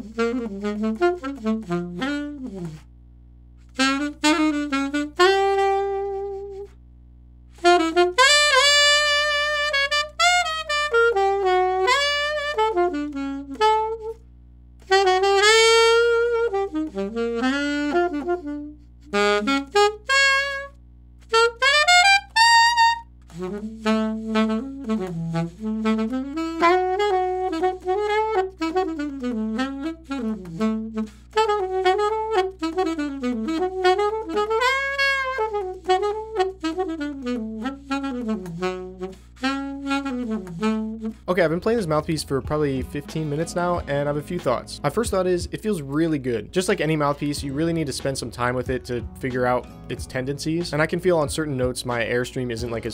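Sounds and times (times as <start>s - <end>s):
alto saxophone solo: 0.0s - 2.9s, 3.6s - 6.8s, 7.5s - 14.2s, 14.8s - 52.9s.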